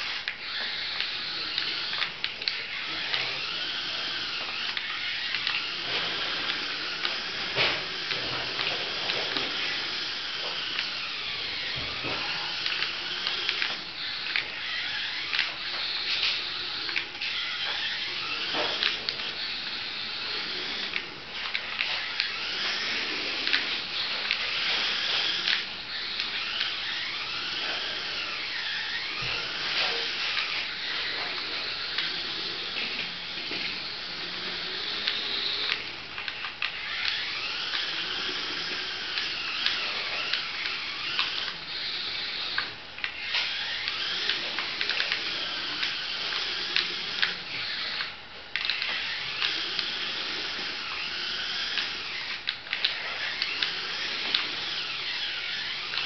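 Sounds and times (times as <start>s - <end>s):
toy car electric motor whining: 0.0s - 56.0s.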